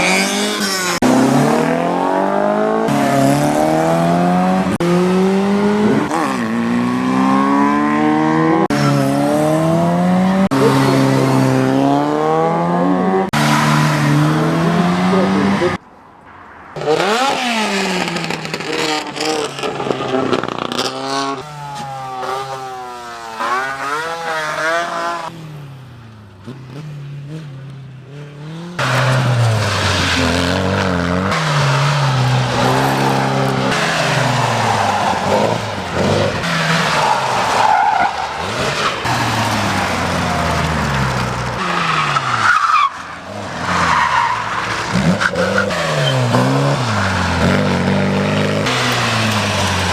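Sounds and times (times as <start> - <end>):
car engines revving: 0.0 - 15.8, 16.6 - 49.9.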